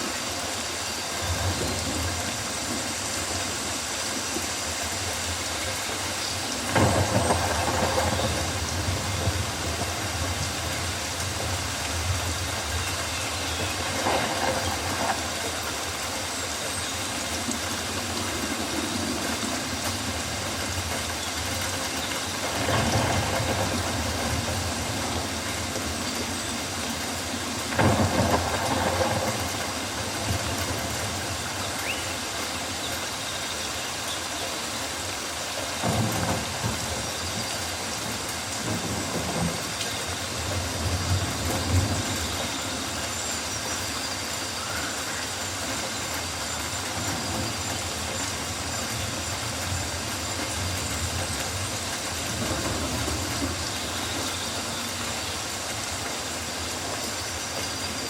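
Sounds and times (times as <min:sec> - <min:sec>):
rain and leaves hissing: 0:00.0 - 0:58.0.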